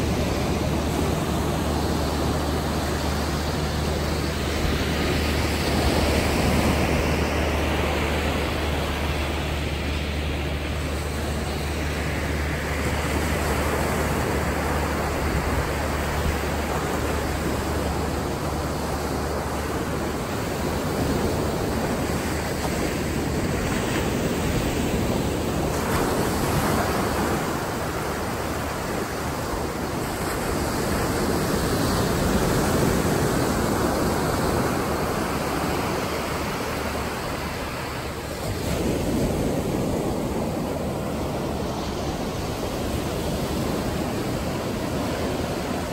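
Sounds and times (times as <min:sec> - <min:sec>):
surf breaking on sand: 0:00.0 - 0:45.9.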